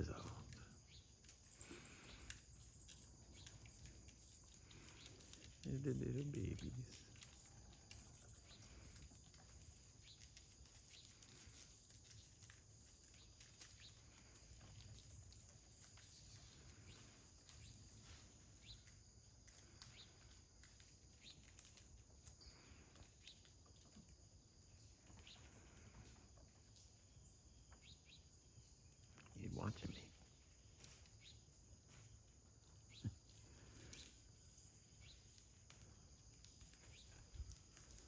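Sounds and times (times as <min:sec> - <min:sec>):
faint ticks: 0:00.0 - 0:27.0, 0:28.6 - 0:38.0.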